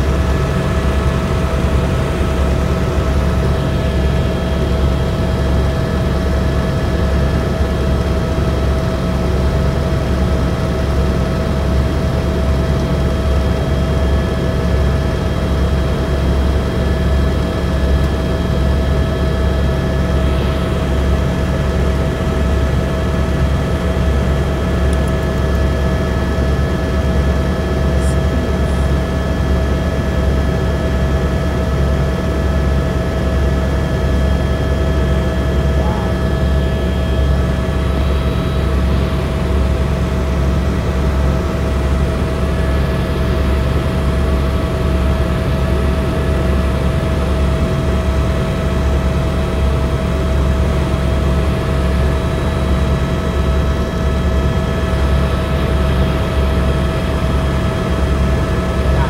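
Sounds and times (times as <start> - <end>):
helicopter engine and rotor drone: 0.0 - 59.0
high turbine whine: 0.0 - 59.0.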